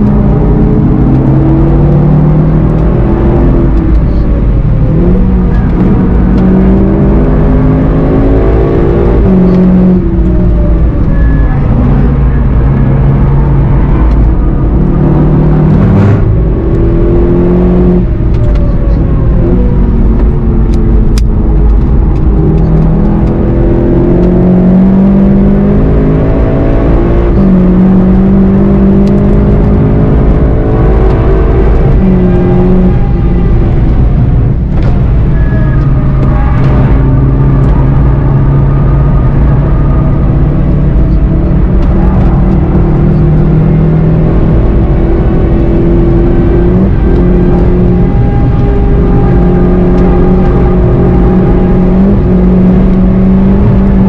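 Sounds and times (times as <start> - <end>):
car engine accelerating: 0.0 - 54.0
road and tyre rumble: 0.0 - 54.0.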